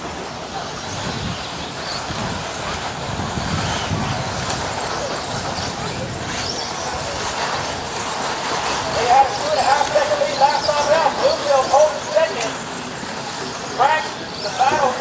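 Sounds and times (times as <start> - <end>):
high motor whines: 0.0 - 15.0
rc buggy motors and tyres: 0.0 - 15.0.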